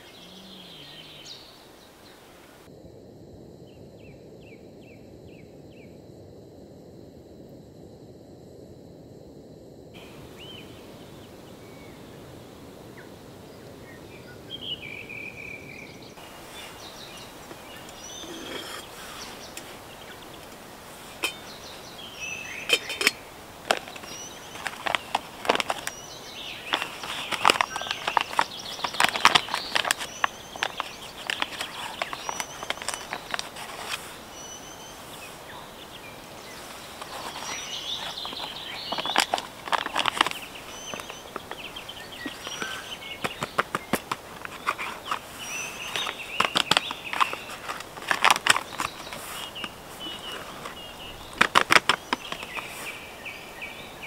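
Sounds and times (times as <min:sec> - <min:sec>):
birds chirping: 0:00.0 - 0:02.7, 0:10.0 - 0:54.0
steady background hiss: 0:00.0 - 0:54.0.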